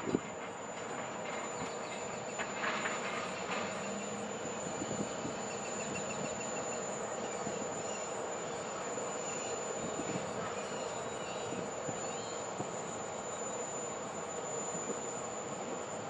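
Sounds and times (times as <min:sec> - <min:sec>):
distant freight train: 0:00.0 - 0:16.0.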